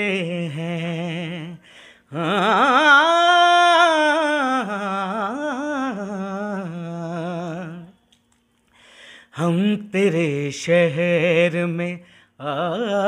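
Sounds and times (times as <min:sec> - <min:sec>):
man singing unaccompanied: 0:00.0 - 0:08.0, 0:09.3 - 0:13.0.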